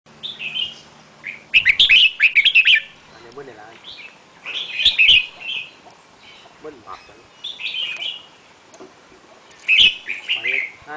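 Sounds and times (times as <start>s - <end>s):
bird singing: 0.1s - 8.8s, 9.4s - 10.9s.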